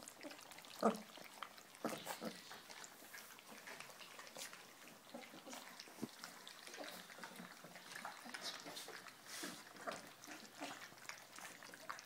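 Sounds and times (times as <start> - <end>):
puppies smacking and lapping: 0.0 - 12.0.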